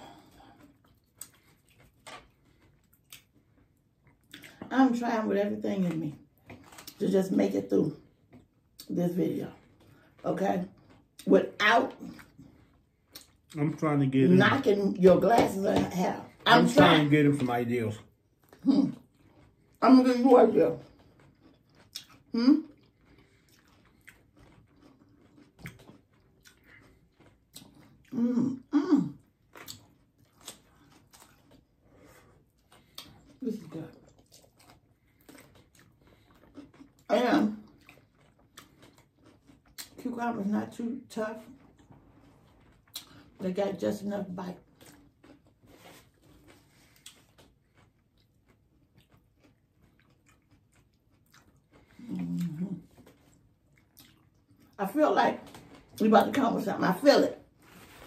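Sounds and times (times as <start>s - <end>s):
faint crunching of chewing: 0.0s - 58.0s.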